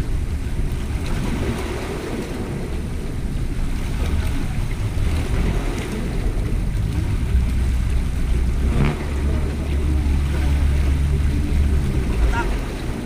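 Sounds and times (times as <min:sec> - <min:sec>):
sea water splashing on rocks: 0:00.0 - 0:13.0
wind rumbling on microphone: 0:00.0 - 0:13.0.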